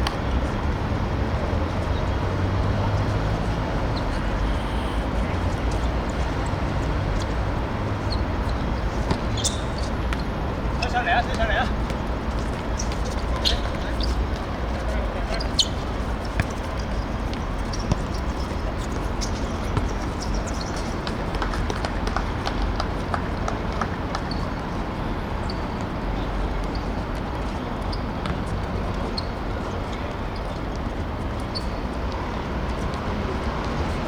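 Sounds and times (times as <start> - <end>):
players' footsteps and ball touches: 0.0 - 34.0.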